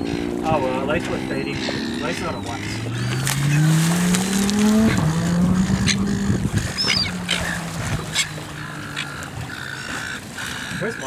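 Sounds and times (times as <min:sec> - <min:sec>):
gull calling: 0:00.0 - 0:11.0
outboard engine running: 0:00.0 - 0:11.0
sharp water splashes: 0:00.0 - 0:11.0.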